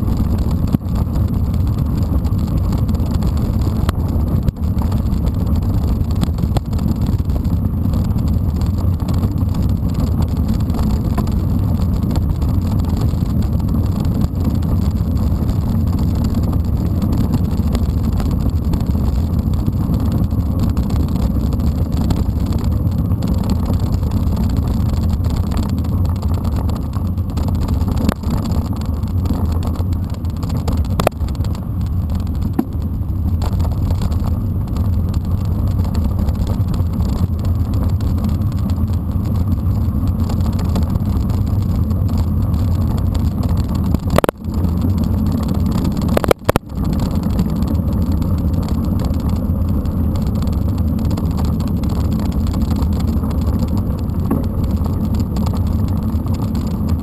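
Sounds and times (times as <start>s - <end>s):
bike tyres rolling on dirt: 0.0s - 57.0s.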